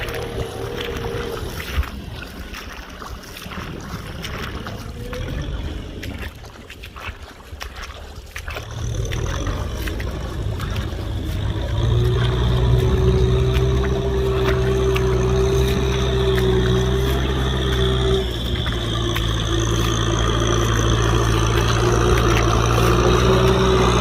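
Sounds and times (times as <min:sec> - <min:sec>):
tractor diesel engine running: 0:00.0 - 0:06.2, 0:08.4 - 0:24.0.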